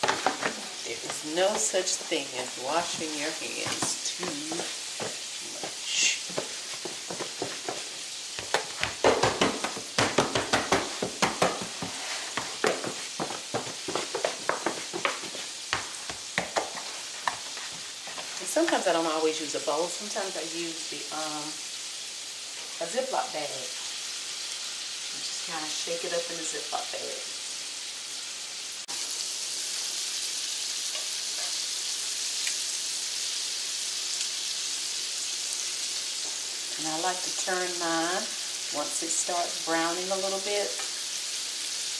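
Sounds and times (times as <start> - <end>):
chicken sizzling in skillet: 0.0 - 41.9.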